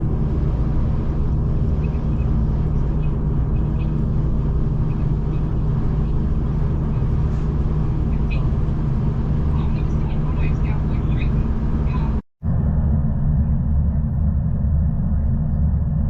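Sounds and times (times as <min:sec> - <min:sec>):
train rumbling on board: 0:00.0 - 0:16.0.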